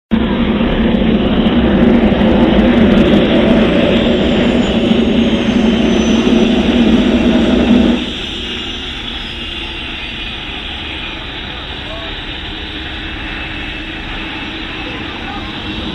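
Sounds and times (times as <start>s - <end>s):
jet engines roaring: 0.1s - 15.9s.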